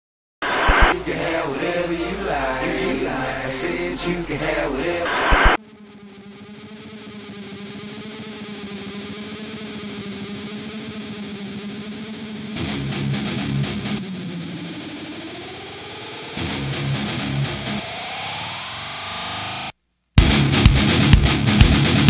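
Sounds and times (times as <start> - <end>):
distorted electric guitar: 0.4 - 22.0.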